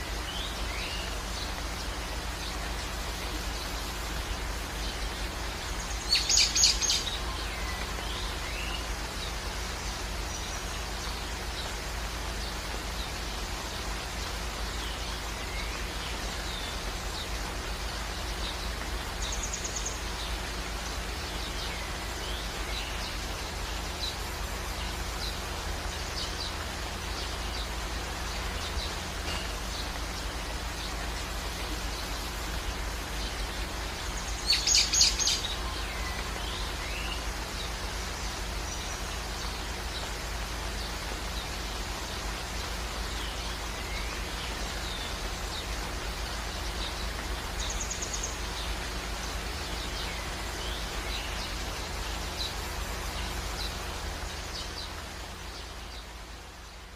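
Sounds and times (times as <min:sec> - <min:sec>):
outdoor background noise: 0:00.0 - 0:56.9.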